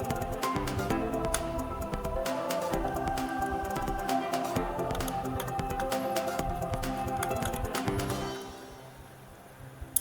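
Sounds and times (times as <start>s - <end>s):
music with sustained tones: 0.0s - 10.0s.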